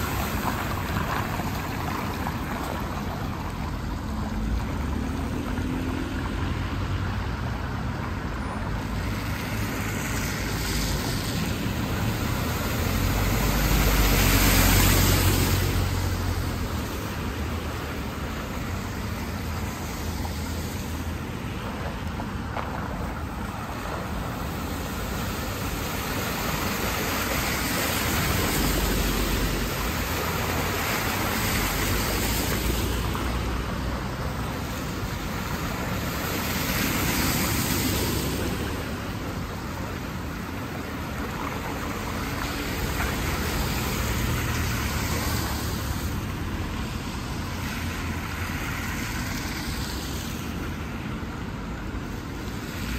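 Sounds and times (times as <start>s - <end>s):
car tyres hissing through water: 0.0s - 52.9s.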